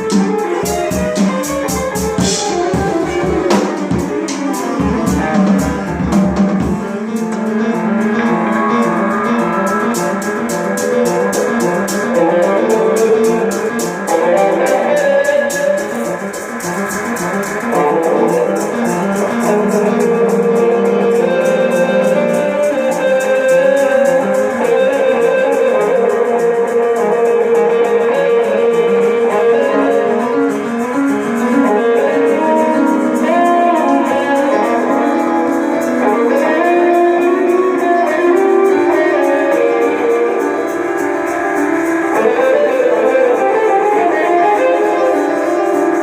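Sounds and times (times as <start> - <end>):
guitar-led instrumental music: 0.0 - 46.0.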